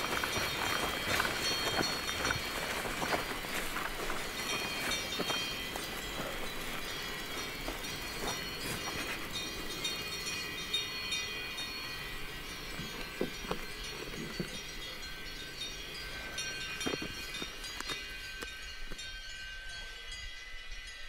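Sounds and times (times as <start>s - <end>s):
high chime-like ringing tones: 0.0s - 21.0s.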